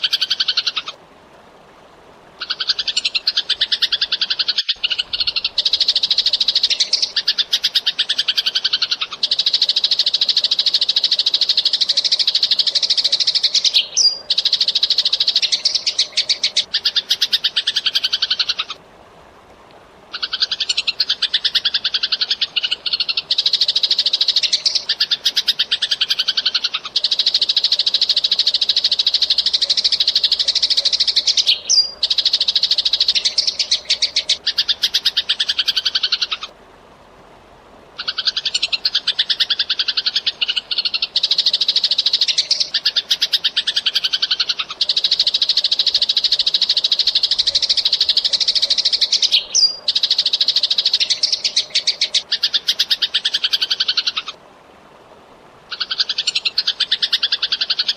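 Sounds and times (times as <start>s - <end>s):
sparrow chattering: 2.4s - 18.8s, 20.2s - 36.5s, 38.0s - 54.3s.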